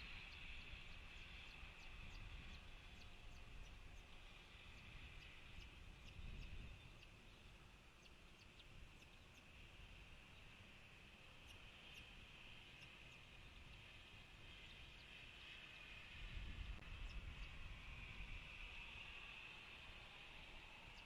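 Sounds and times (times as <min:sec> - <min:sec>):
steady high hum: 0:00.0 - 0:21.0.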